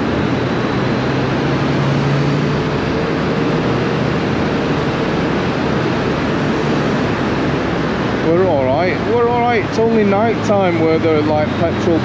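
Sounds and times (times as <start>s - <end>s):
motorcycle engine drone: 0.0s - 12.0s
traffic drone: 0.0s - 12.0s.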